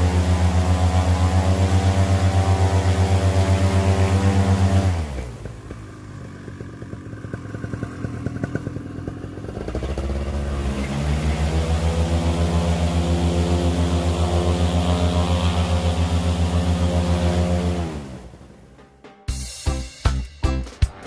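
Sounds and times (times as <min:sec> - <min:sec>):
two-stroke engine idling: 0:00.0 - 0:18.8.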